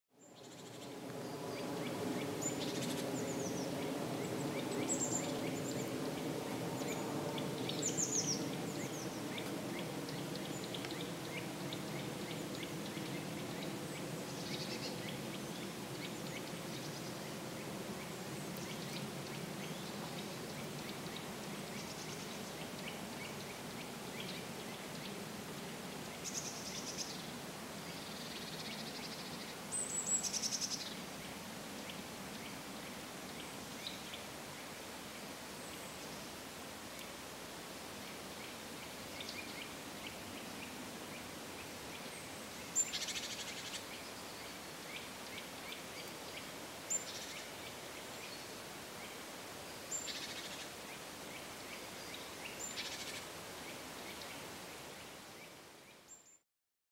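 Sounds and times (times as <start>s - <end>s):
small birds singing: 0.2s - 37.2s, 38.0s - 56.4s.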